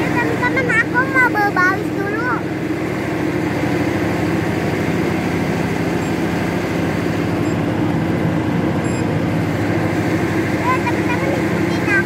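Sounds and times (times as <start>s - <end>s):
train engine idling: 0.0s - 12.0s.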